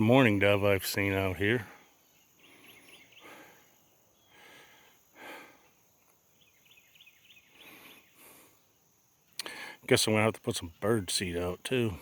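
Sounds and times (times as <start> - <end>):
bird chirping: 0.0 - 12.0
high insect drone: 0.0 - 12.0.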